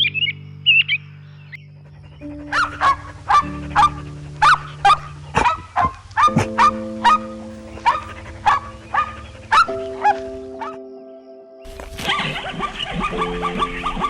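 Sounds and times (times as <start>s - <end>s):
background music with held chords: 0.0s - 14.0s
animal barking calls: 1.8s - 10.8s, 11.7s - 14.0s.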